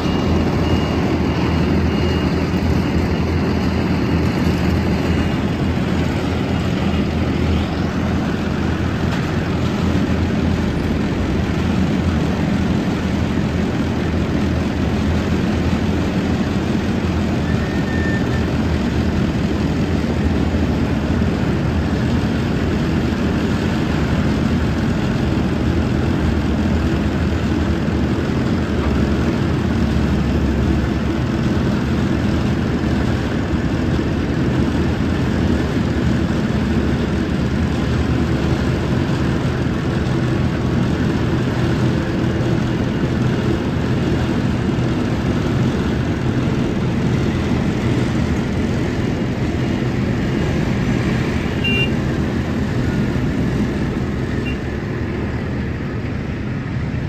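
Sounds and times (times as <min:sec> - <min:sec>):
heavy diesel engines droning: 0:00.0 - 0:57.0.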